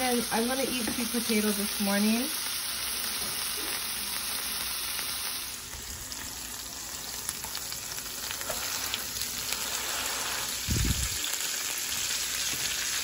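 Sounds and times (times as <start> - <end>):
patties sizzling in oil: 0.0 - 13.0.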